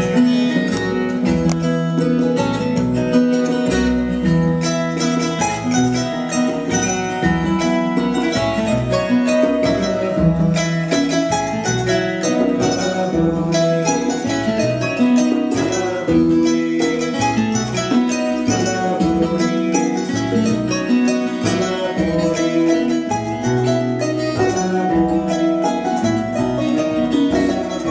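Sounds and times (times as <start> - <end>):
plucked string instrument music: 0.0 - 27.9.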